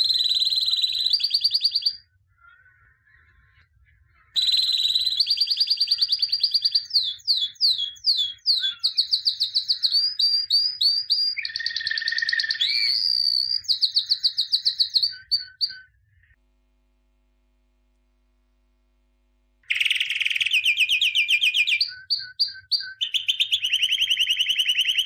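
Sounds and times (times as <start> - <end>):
songbird singing trills: 0.0 - 3.2, 4.4 - 16.4, 19.7 - 25.0.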